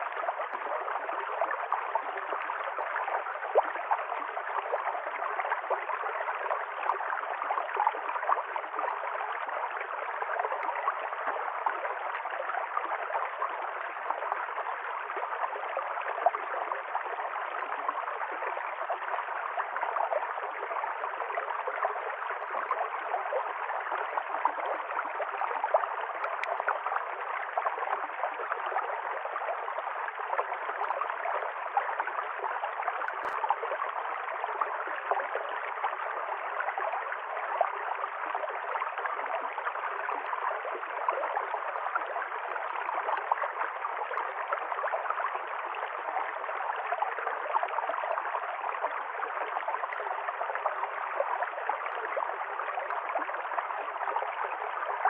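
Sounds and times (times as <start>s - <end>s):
stream of running water: 0.0s - 55.0s.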